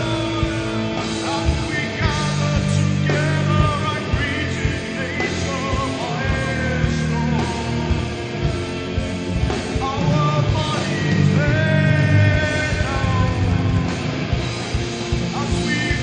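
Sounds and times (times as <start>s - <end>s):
man singing long gliding notes: 0.0s - 8.1s, 9.7s - 14.3s, 15.2s - 16.0s
live metal band playing: 0.0s - 16.0s.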